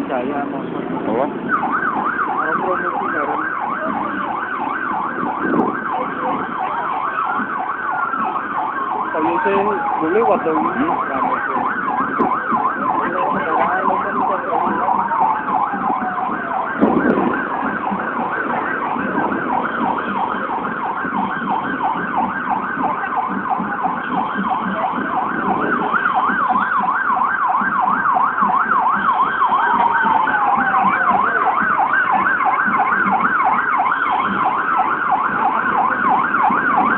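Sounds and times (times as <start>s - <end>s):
electronic siren warbling: 1.0s - 36.9s.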